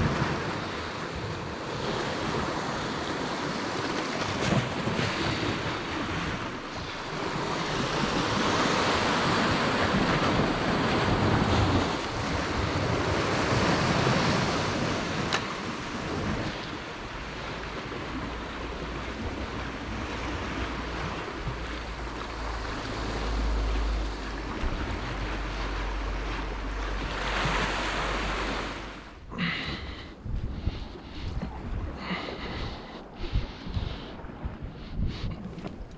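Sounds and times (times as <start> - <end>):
waves breaking on rocks: 0.0 - 30.4
wind buffeting microphone: 0.0 - 35.9.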